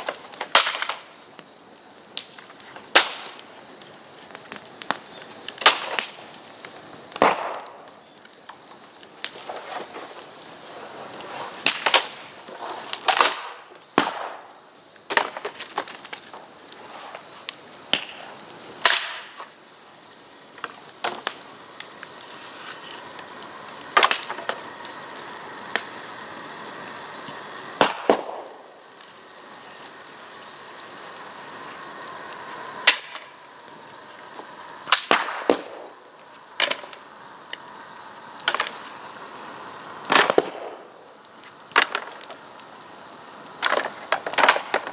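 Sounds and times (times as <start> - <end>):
fire crackling and hissing: 0.0 - 44.9.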